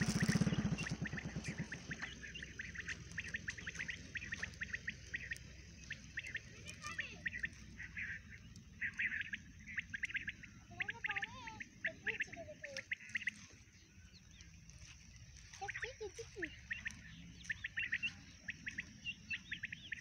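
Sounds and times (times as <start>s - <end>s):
lower sliding bird calls: 0.0s - 20.0s
small birds chirping: 0.0s - 20.0s.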